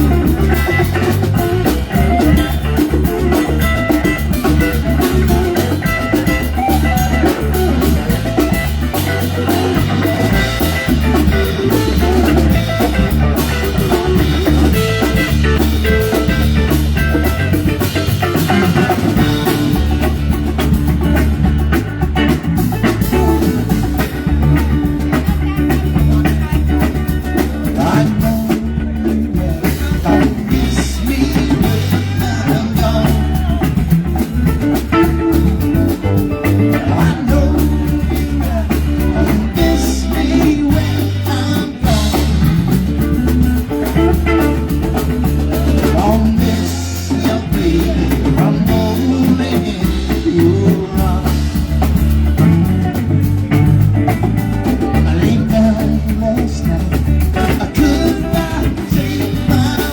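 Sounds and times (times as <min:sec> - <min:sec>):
live band playing instrumental: 0:00.0 - 0:59.9.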